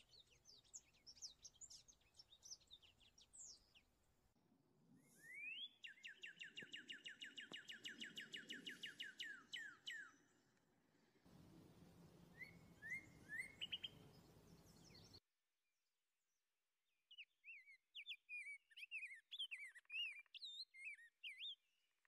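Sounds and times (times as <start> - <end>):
songbirds singing: 0.0 - 4.0, 5.1 - 10.4, 11.3 - 15.2, 17.1 - 21.6.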